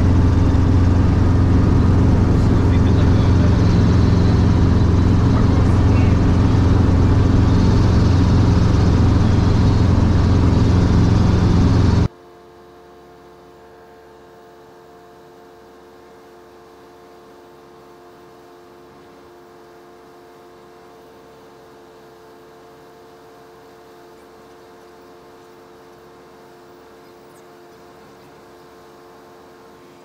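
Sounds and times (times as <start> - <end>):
faint steady hum: 0.0 - 30.0
helicopter cabin drone: 0.0 - 30.0
steady whining tones: 0.0 - 30.0.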